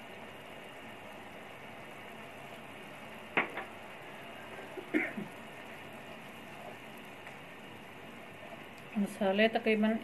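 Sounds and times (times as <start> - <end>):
masala sizzling in a frying pan: 0.0 - 10.0.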